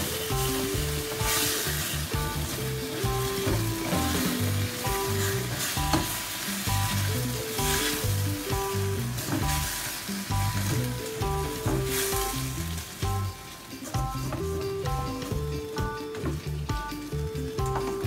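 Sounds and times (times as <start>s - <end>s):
background music with bass: 0.0s - 18.0s
food sizzling in a wok: 0.0s - 18.0s.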